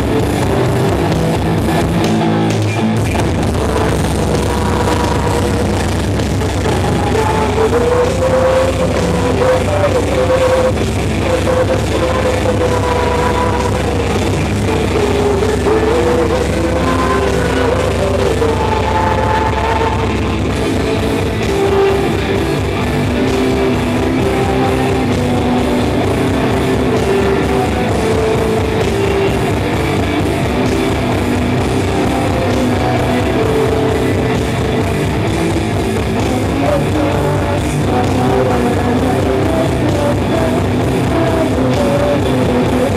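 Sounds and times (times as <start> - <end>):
distorted electric guitars: 0.0 - 42.9
drum kit: 0.0 - 42.9.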